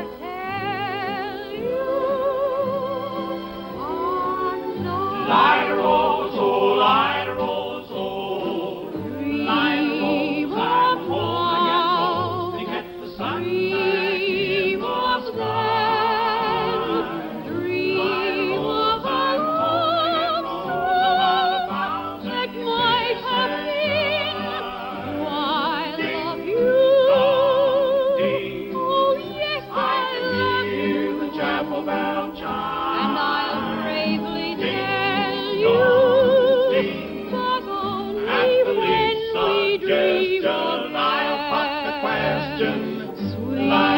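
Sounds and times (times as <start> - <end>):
male quartet singing in harmony: 0.0 - 43.9
soprano singing with vibrato: 0.0 - 43.9.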